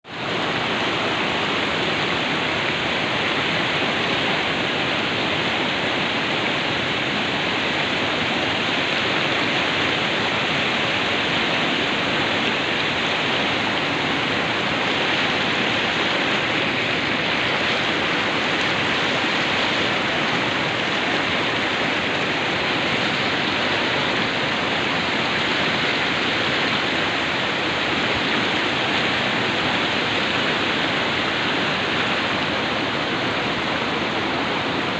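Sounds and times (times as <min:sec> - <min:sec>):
river water rushing over rocks: 0:00.0 - 0:34.9.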